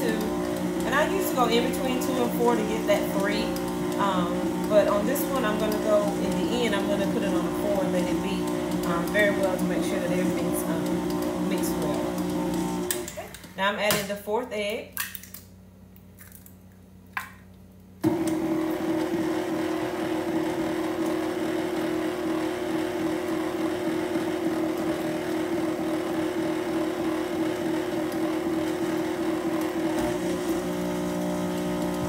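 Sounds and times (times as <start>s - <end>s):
stand mixer motor running: 0.0s - 13.4s, 18.0s - 32.0s.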